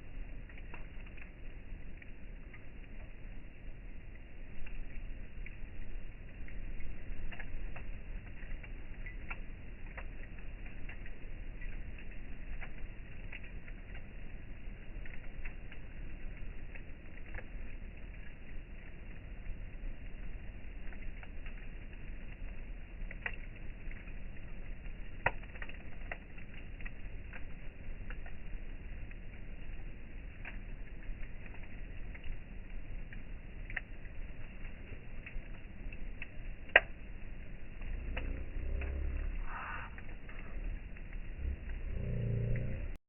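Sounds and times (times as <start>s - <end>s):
campfire crackling: 0.0s - 43.0s
low rumble: 0.0s - 43.0s.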